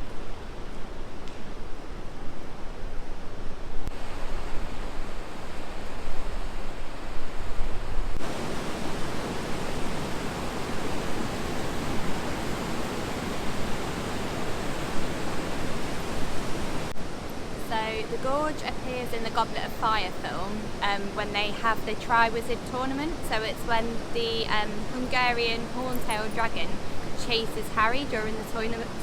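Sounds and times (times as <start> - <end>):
river water rushing: 3.9 - 29.0.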